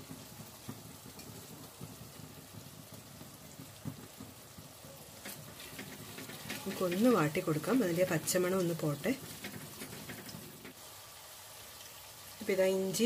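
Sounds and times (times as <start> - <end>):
wooden spatula knocking pan: 0.0 - 10.8
faint sizzle of frying in oil: 0.0 - 13.0.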